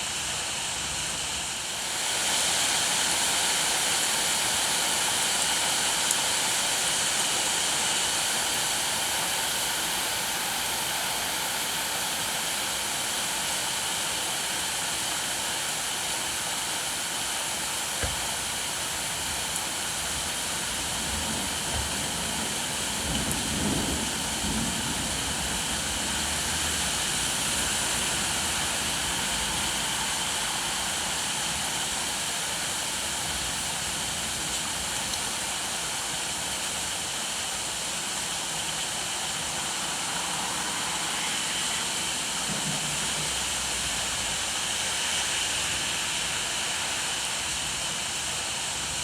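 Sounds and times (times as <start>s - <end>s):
heavy rain falling: 0.1s - 49.0s.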